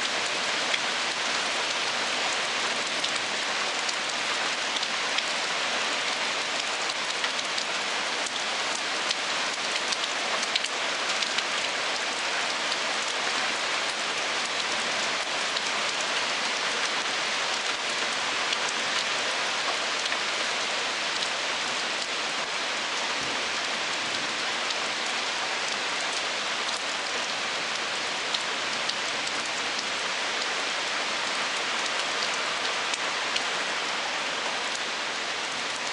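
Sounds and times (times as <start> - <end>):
heavy rain pouring: 0.0 - 35.9
rain drops ticking: 0.0 - 35.9.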